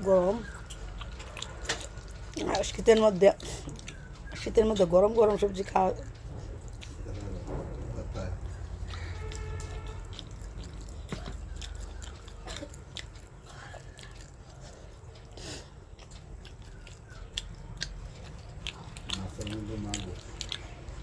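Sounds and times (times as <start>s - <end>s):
low steady hum: 0.0s - 21.0s
person chewing food: 0.0s - 21.0s
mouth clicks and smacks: 0.4s - 4.8s, 5.9s - 21.0s.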